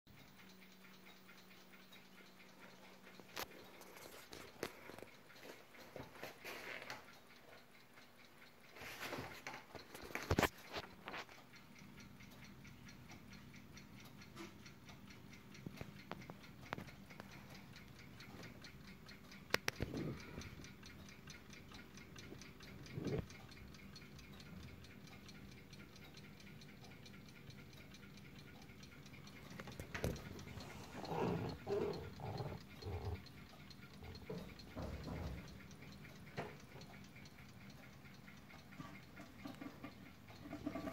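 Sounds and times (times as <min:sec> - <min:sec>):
clock ticking: 0:00.1 - 0:40.9.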